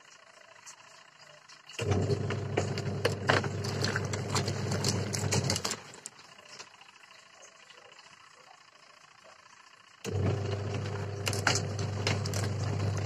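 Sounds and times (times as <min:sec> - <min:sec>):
washing machine agitating: 0:00.0 - 0:13.0.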